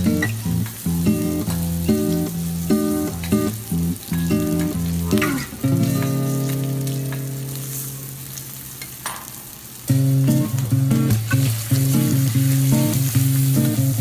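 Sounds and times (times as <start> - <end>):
shrimp sizzling on griddle: 0.0 - 14.0.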